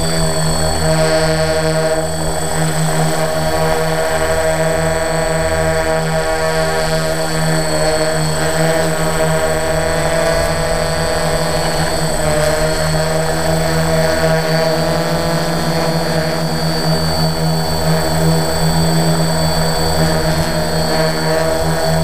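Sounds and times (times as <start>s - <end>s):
drone motors buzzing: 0.0s - 22.0s.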